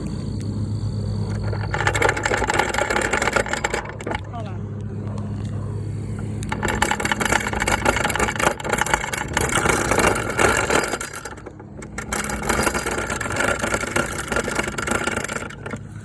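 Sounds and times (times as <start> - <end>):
motor hum: 0.0 - 16.0
rattle of wheels and body: 0.0 - 16.0.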